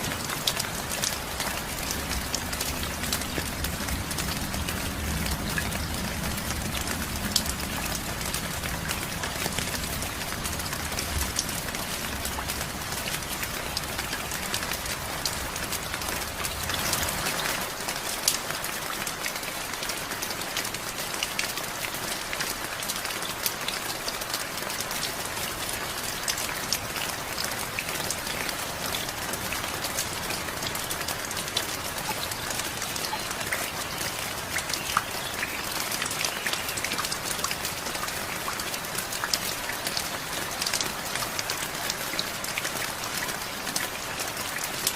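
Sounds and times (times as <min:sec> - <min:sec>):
rain drops on hard surface: 0:00.0 - 0:44.9.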